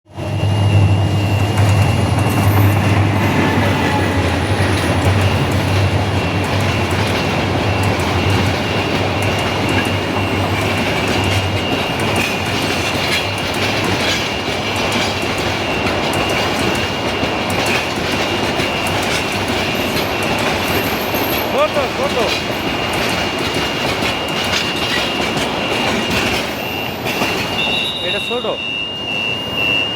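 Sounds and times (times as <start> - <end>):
train wheels rumbling on rail: 0.1 - 29.9
clickety-clack of rail joints: 0.2 - 29.1.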